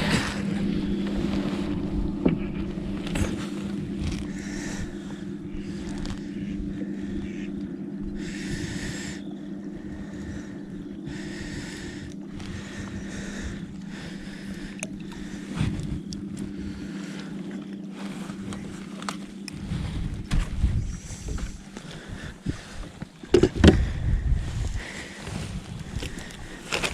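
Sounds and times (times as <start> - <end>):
water or wind swishes: 0.0 - 25.8
boat motor hum: 0.0 - 26.9.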